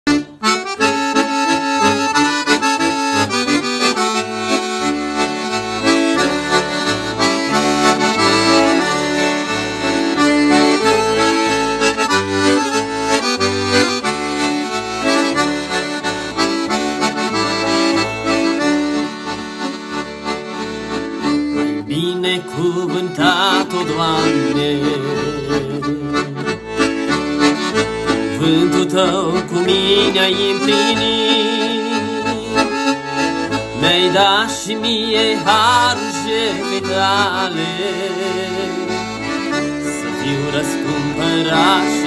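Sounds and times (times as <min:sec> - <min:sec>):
bass line: 0:00.1 - 0:42.0
instrumental melody in long notes: 0:00.1 - 0:42.0.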